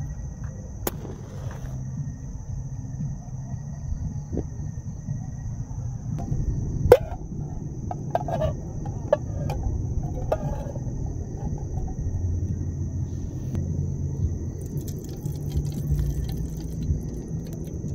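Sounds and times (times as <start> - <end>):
crickets chirping: 0.0 - 17.9.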